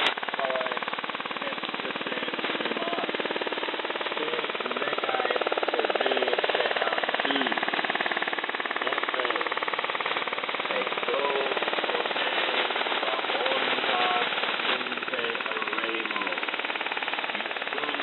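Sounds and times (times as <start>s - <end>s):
faint distant radio broadcast: 0.0s - 3.2s, 3.8s - 18.0s
pulsing interference buzz: 0.0s - 18.0s
radio static hiss: 0.0s - 18.0s.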